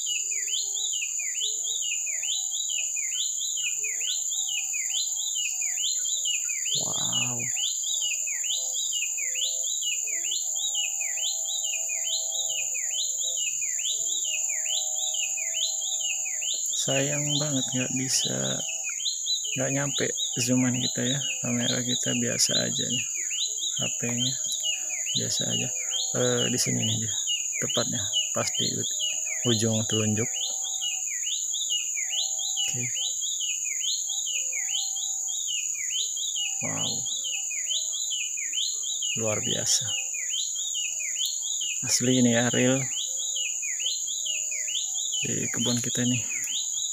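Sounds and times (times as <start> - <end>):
bird singing whistled notes: 0.0 - 46.9.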